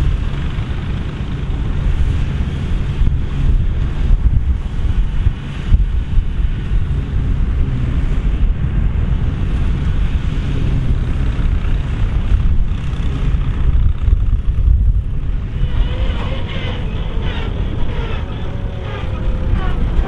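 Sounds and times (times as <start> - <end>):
combine harvester rumbling: 0.0 - 20.0.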